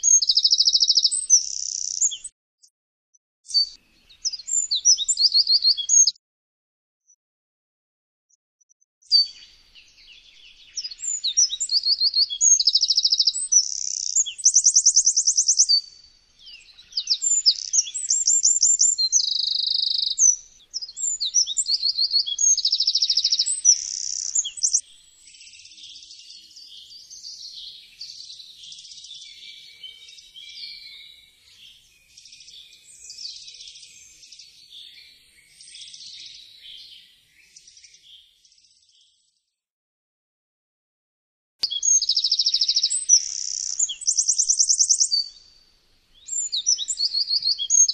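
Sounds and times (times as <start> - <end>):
wren singing: 0.0 - 2.3, 3.5 - 6.2, 9.0 - 38.2, 41.6 - 47.9.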